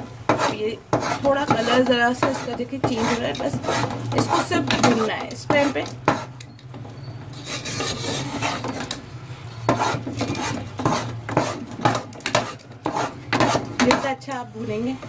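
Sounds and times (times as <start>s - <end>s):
metal spatula scraping a pot: 0.3s - 15.0s.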